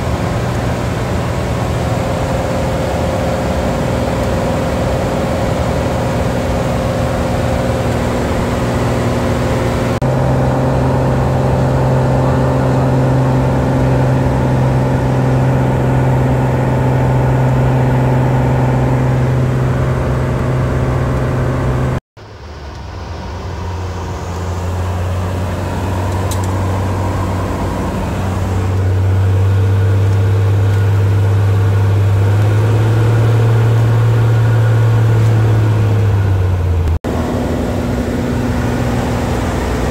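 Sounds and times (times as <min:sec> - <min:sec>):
plane engine and propeller drone: 0:00.0 - 0:39.9.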